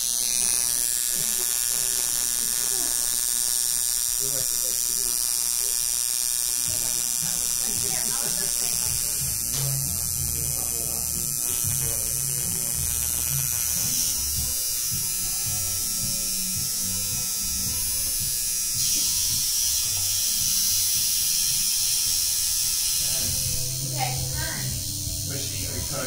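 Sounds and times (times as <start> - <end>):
tattoo machine buzzing: 0.0 - 26.0.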